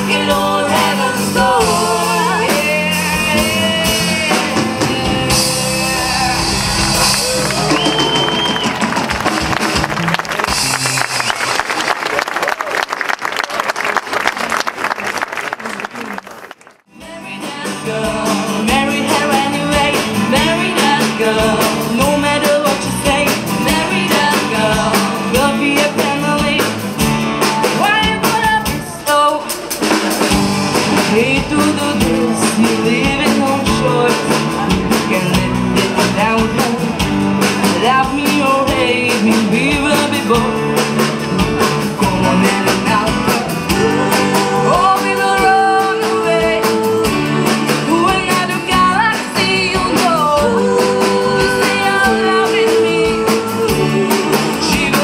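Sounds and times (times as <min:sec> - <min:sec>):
live band with singers: 0:00.0 - 0:55.0.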